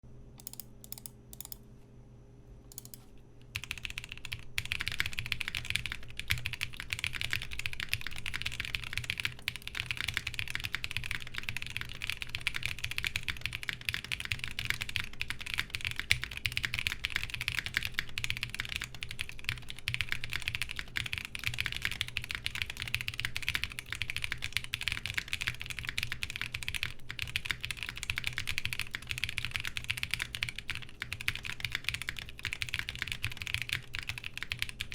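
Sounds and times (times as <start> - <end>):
mechanical keyboard typing: 0.4 - 1.6, 2.7 - 34.9.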